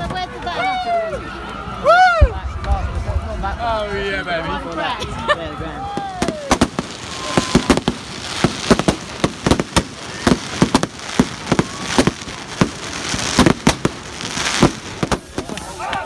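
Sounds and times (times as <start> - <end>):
firecrackers banging: 2.0 - 16.0
crackling and hiss: 2.2 - 16.0.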